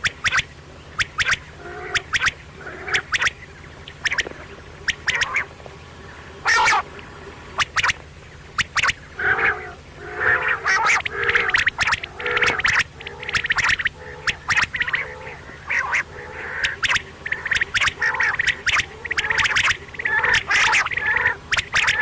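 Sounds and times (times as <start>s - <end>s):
quail calling: 0.0s - 22.0s.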